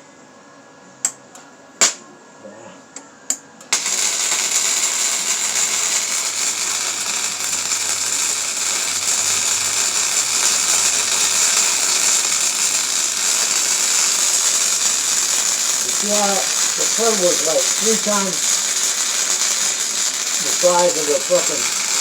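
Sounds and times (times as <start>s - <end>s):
welding arc crackling: 3.7s - 22.0s.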